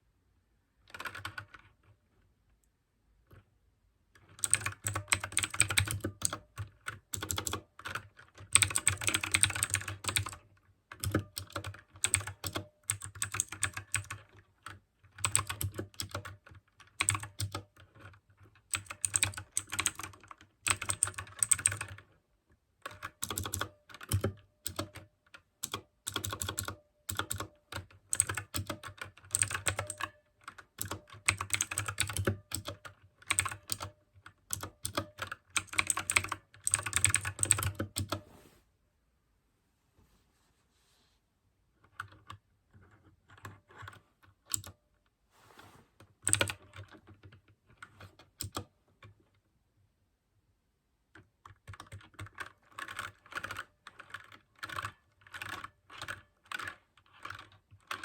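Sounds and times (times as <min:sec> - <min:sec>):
clicky mechanical keyboard typing: 0:00.9 - 0:02.0, 0:04.2 - 0:22.2, 0:22.8 - 0:38.2, 0:41.8 - 0:44.8, 0:46.2 - 0:49.2, 0:51.2 - 0:58.0.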